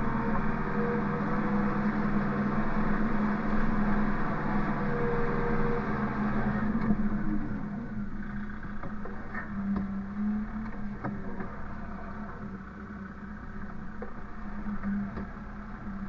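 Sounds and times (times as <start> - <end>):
machine engine humming: 0.0 - 16.0.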